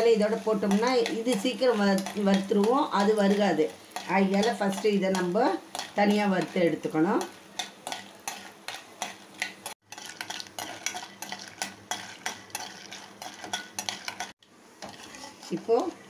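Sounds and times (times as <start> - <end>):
light sizzle of frying: 0.0 - 16.0
spatula scraping and tapping pan: 0.0 - 16.0.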